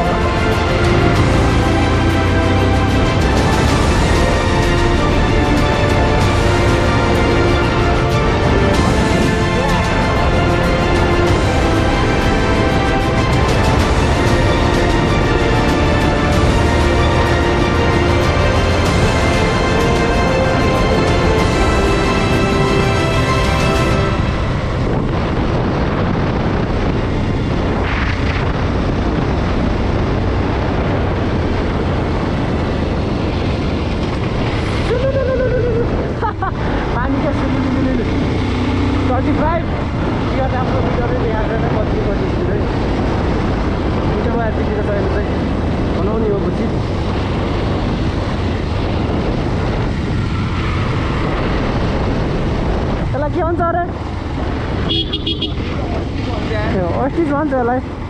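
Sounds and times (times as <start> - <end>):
motorcycle engine: 0.0 - 58.0
wind rushing over microphone: 0.0 - 58.0.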